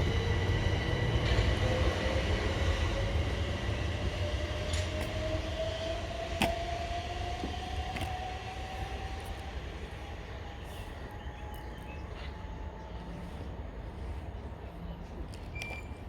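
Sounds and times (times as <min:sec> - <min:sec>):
electric train motors whining: 0:00.0 - 0:13.8
low train rumble: 0:00.0 - 0:16.0.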